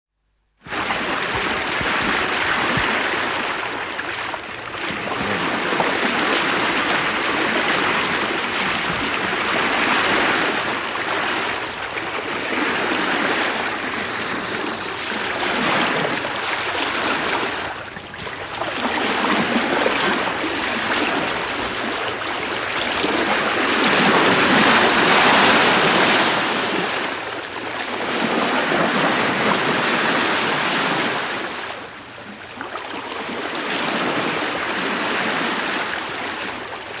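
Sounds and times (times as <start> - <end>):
water rushing along ship bow: 0.6 - 37.0.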